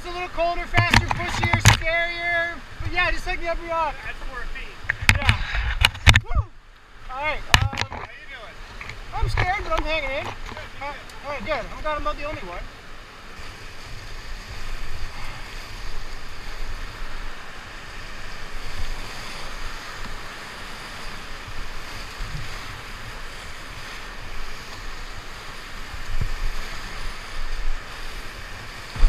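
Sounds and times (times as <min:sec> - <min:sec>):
whitewater rapids roaring: 0:00.0 - 0:29.0.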